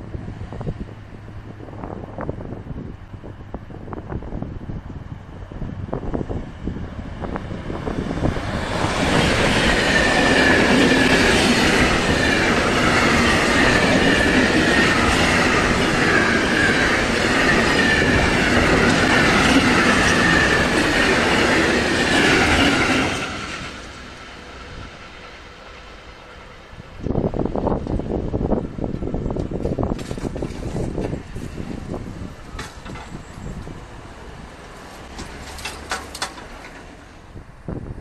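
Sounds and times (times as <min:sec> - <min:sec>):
freight train rolling past: 0:00.0 - 0:38.0.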